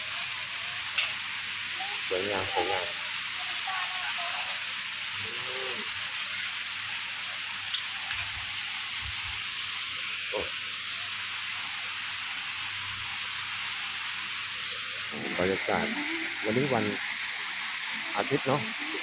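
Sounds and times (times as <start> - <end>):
water spraying and running: 0.0 - 19.0.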